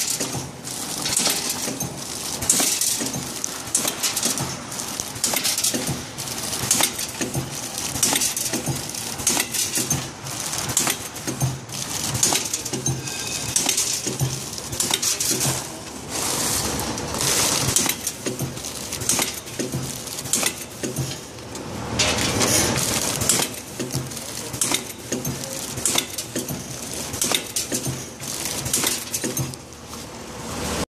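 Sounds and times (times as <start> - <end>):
clatter of clicks and metallic chinks: 0.0 - 15.8, 17.5 - 29.6
packing machine pulse: 0.0 - 30.8.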